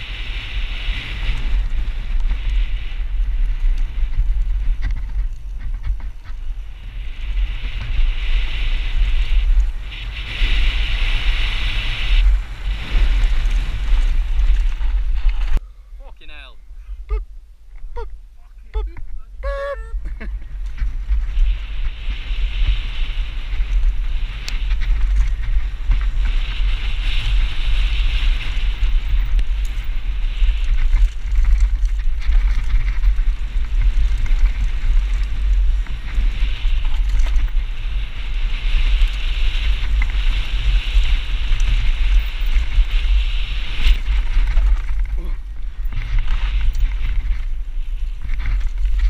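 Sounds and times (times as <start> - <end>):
tyres rolling on dirt trail: 0.0 - 15.6, 16.9 - 49.0
wind buffeting microphone: 0.0 - 49.0.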